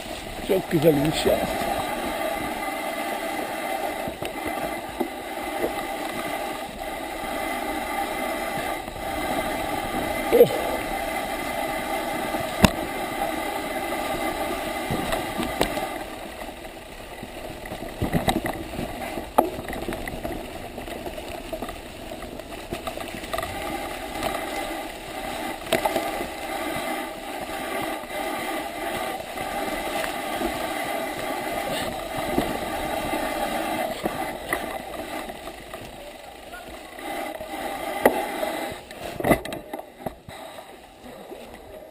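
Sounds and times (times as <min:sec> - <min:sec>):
bicycle tyre and drivetrain noise: 0:00.0 - 0:41.9.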